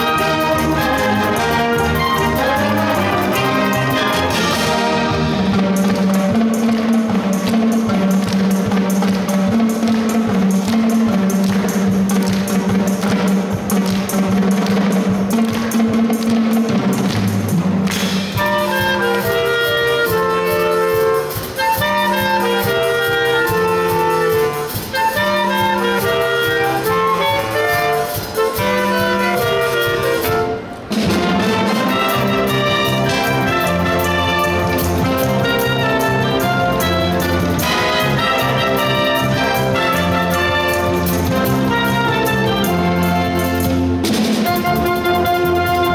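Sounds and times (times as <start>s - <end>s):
drum kit: 0.0s - 45.9s
wind band playing: 0.0s - 45.9s.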